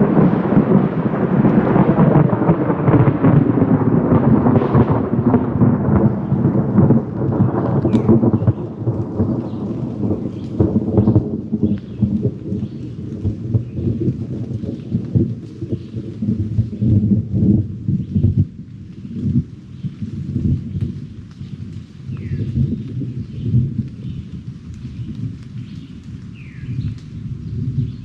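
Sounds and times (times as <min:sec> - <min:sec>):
close thunder rumbling: 0:00.0 - 0:28.0.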